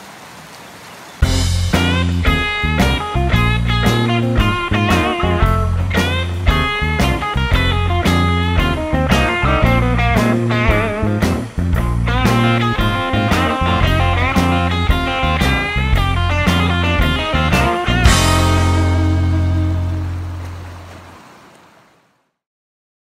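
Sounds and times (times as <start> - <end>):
guitar-led rock music: 1.2 - 20.4.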